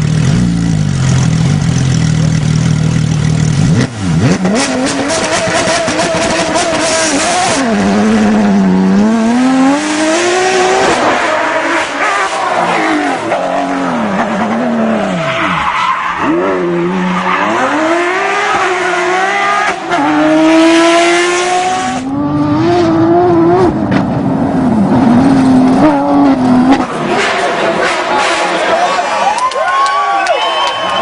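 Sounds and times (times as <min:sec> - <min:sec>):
rally car engine revving: 0:00.0 - 0:29.2.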